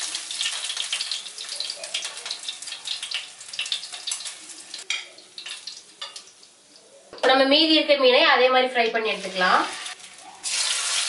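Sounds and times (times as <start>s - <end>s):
oil sizzling and crackling: 0.0s - 7.7s, 8.9s - 11.0s.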